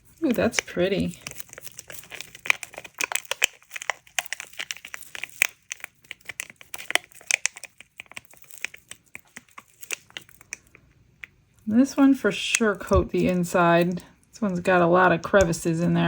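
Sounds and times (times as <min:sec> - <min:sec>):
crinkly clicks and light taps: 0:00.2 - 0:16.0.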